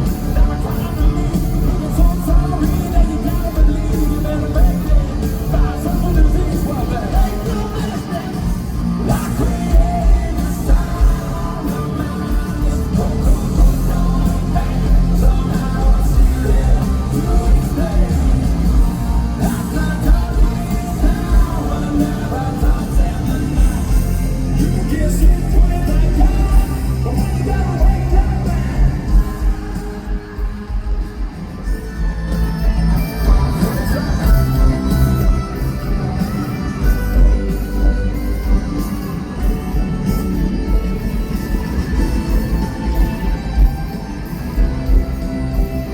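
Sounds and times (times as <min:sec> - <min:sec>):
live rock band: 0:00.0 - 0:45.9
person singing: 0:00.0 - 0:45.9.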